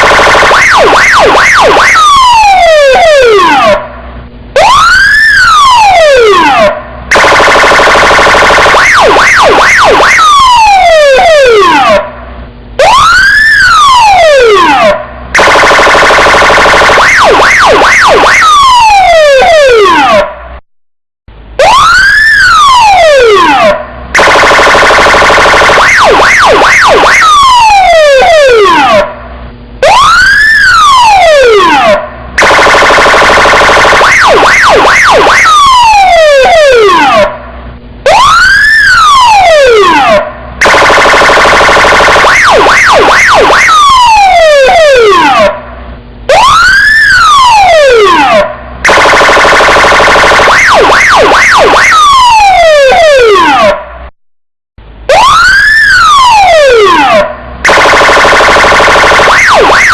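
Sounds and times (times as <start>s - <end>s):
police siren warbling and wailing: 0.0s - 20.5s, 21.6s - 54.0s, 54.9s - 59.9s.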